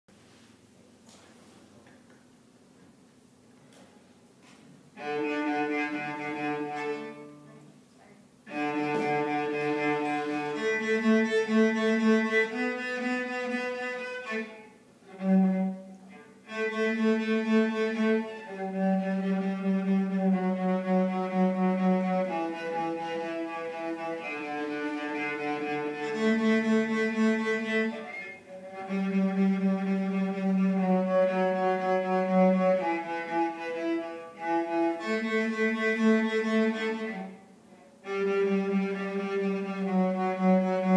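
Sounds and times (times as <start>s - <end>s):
bowed cello melody: 4.9s - 7.8s, 8.4s - 40.9s.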